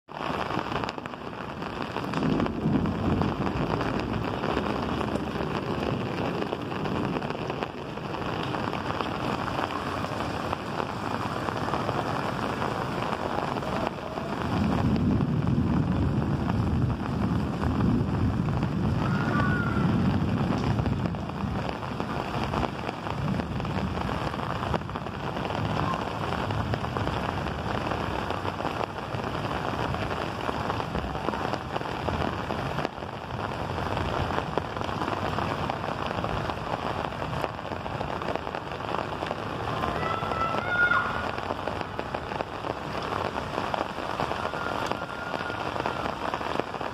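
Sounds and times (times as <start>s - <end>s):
rain on rooftops: 0.0s - 46.9s.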